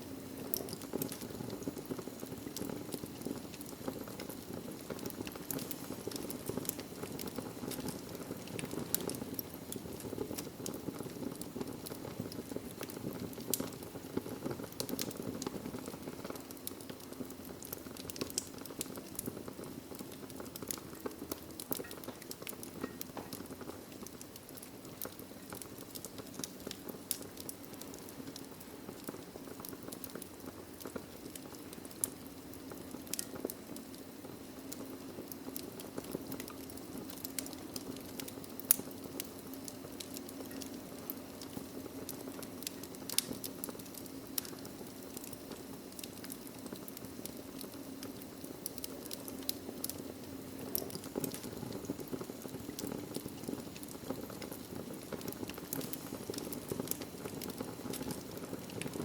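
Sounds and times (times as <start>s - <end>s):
wood fire crackling: 0.0s - 59.0s
sharp pops and snaps: 0.5s - 59.0s.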